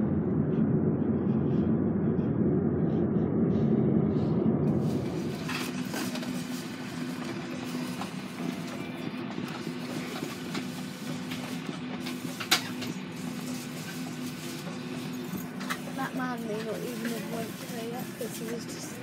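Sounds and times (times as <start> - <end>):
vehicle engine hum and rumble: 0.0 - 19.0.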